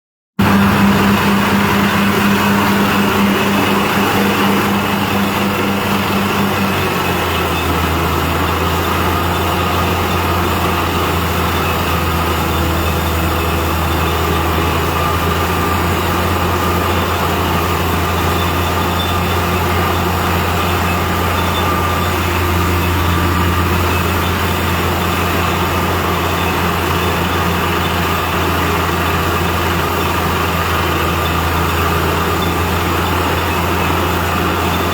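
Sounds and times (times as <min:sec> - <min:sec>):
compressor running loudly: 0:00.4 - 0:34.9.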